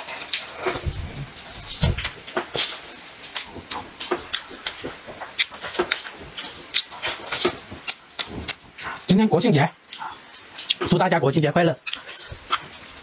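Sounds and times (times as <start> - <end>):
man chewing and lip-smacking: 0.0 - 9.1, 9.8 - 10.9, 11.8 - 13.0.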